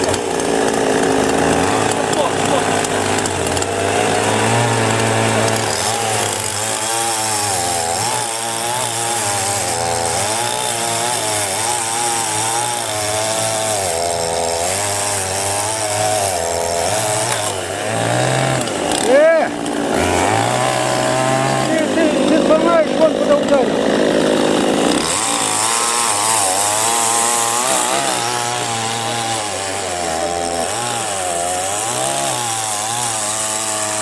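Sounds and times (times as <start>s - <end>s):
chainsaw cutting logs: 0.0s - 34.0s.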